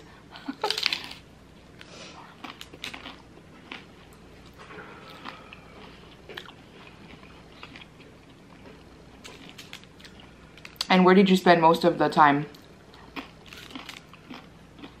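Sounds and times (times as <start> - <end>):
person chewing crunchy food: 0.6 - 10.9, 12.6 - 15.0.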